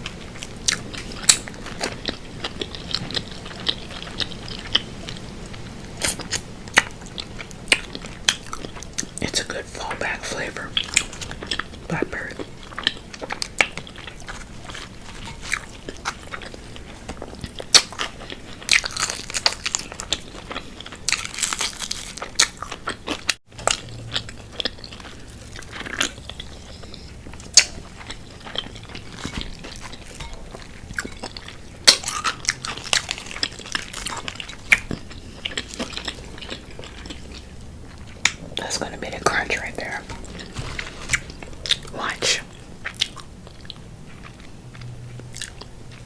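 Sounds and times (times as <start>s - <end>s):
crunching and chewing fried chicken: 0.0s - 46.0s.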